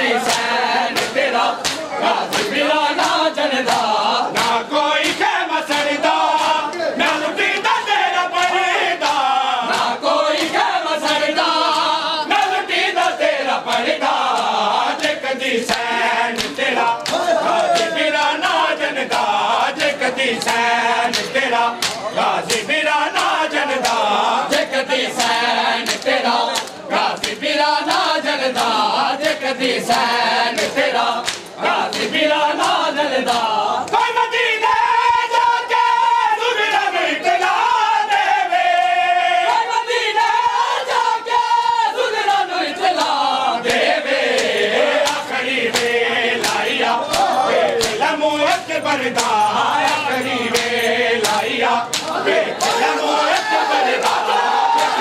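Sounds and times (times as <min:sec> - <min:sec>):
men chanting in unison: 0:00.0 - 0:55.0
hands slapping chests: 0:00.1 - 0:07.2, 0:08.4 - 0:34.1, 0:42.9 - 0:55.0.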